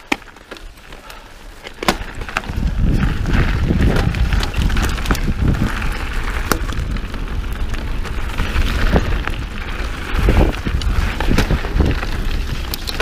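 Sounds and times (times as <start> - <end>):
bike clicks and rattles: 0.0 - 13.0
tyres rumbling on dirt trail: 0.0 - 13.0
wind on microphone: 2.1 - 13.0.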